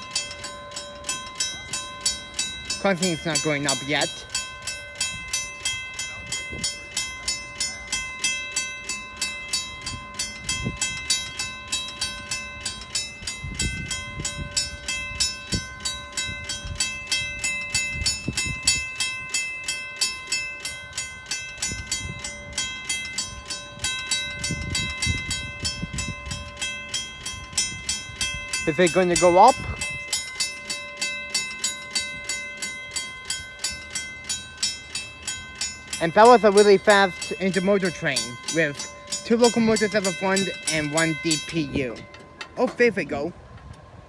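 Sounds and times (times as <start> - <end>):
railway crossing bell ringing: 0.0 - 44.0.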